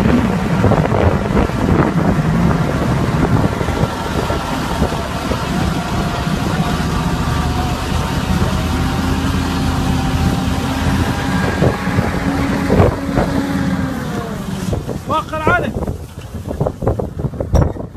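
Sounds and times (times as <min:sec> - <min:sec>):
vehicle engine running loudly: 0:00.0 - 0:17.7.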